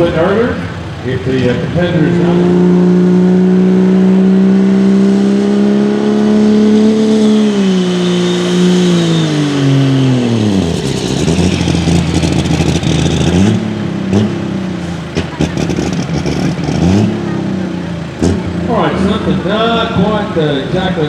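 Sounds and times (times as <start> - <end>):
truck engine revving under load: 0.0 - 21.0.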